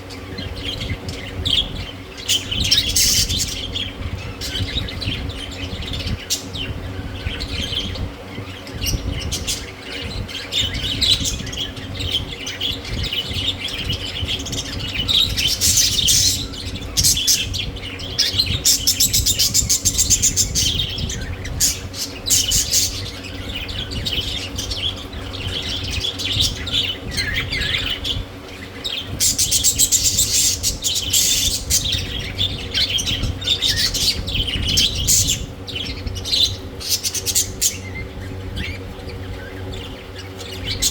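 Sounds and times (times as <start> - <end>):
budgerigars chirping and chattering: 0.0 - 40.9
steady low hum: 0.0 - 40.9.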